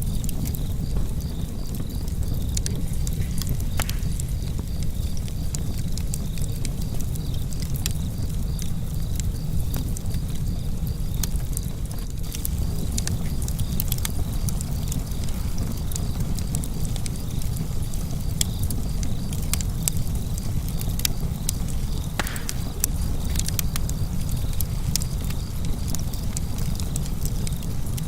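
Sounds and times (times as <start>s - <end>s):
fire crackling in fireplace: 0.0s - 28.0s.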